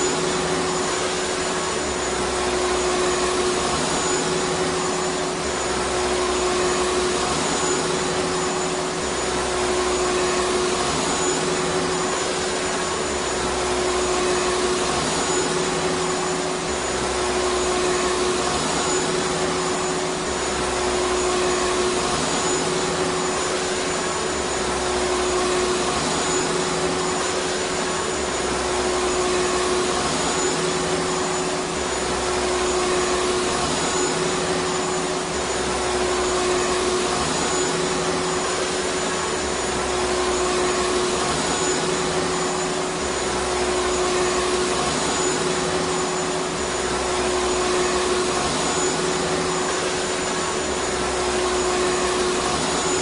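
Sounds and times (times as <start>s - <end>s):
vacuum cleaner motor running: 0.0s - 53.0s.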